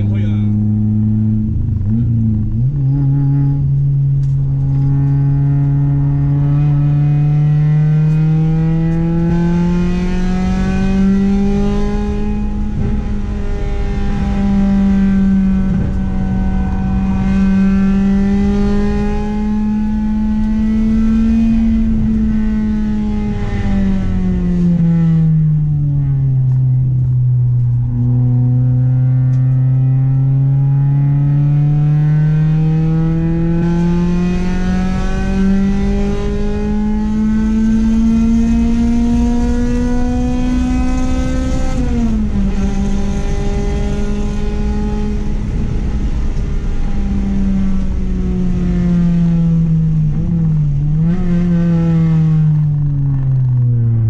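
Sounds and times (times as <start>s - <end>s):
car engine revving hard: 0.0s - 25.3s, 28.1s - 53.2s.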